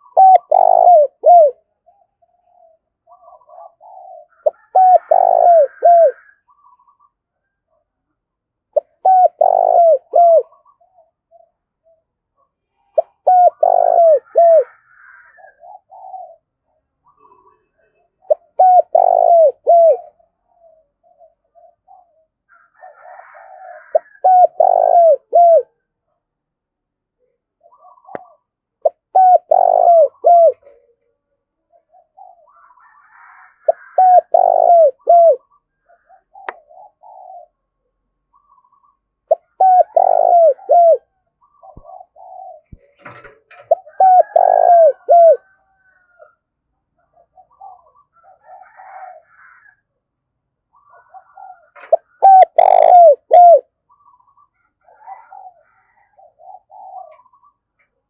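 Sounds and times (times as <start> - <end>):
dove cooing: 0.0 - 7.0, 8.7 - 17.5, 18.2 - 25.8, 27.6 - 31.0, 31.7 - 46.4, 47.0 - 49.8, 50.7 - 58.0.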